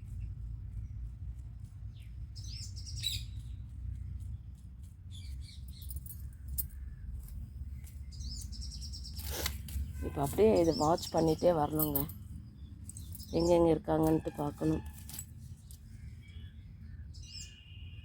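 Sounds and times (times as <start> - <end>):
low steady rumble: 0.0 - 17.1
small birds chirping: 0.0 - 17.7.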